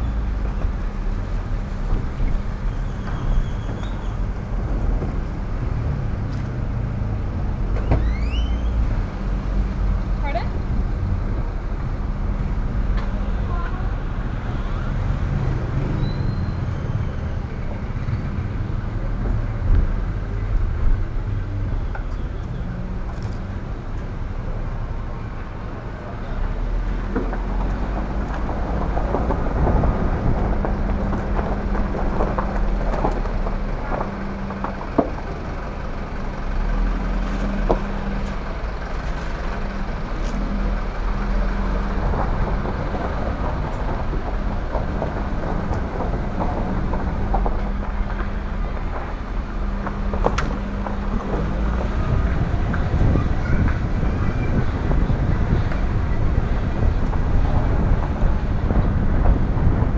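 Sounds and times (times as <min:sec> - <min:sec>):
car engine hum: 0:00.0 - 0:59.9.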